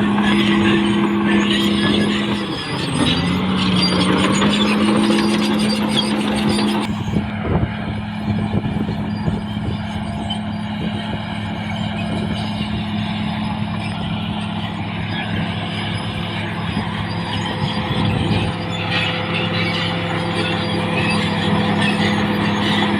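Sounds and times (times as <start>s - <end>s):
bulldozer diesel engine running: 0.0s - 22.9s.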